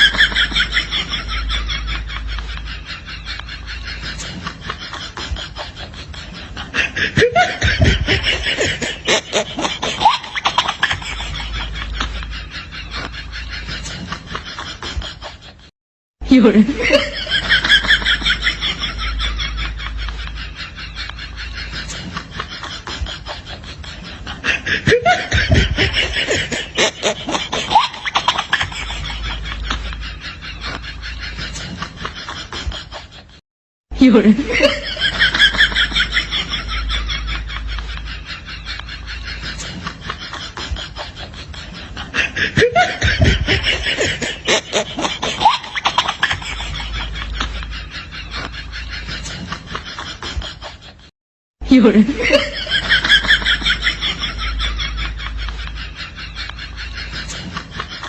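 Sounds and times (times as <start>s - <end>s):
person laughing: 0.0s - 33.4s, 34.0s - 58.0s.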